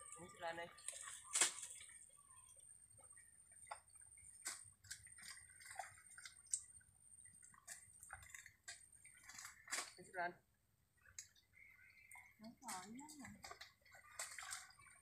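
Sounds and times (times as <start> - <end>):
mud squelching and splashing: 0.0 - 2.6, 3.4 - 10.2, 12.2 - 15.0.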